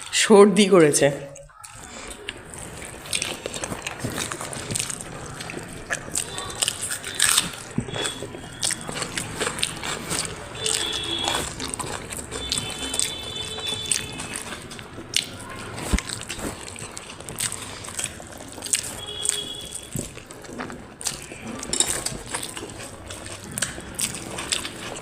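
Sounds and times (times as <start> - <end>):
chewing: 1.3 - 25.0
lip smacks: 1.4 - 25.0
wet squelching and slurping: 1.4 - 25.0.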